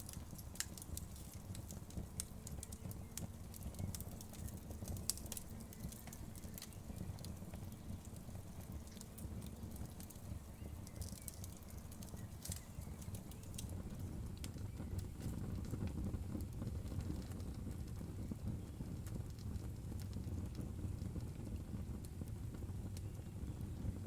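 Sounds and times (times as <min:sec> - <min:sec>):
low rumble of burning: 0:00.0 - 0:24.0
wood fire crackling: 0:00.0 - 0:24.0.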